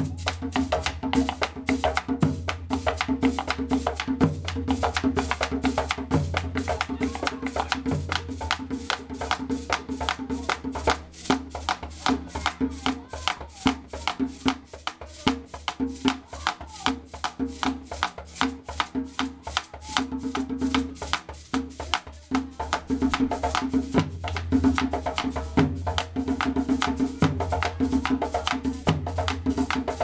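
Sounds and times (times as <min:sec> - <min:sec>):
clicking percussion beat: 0:00.0 - 0:30.0.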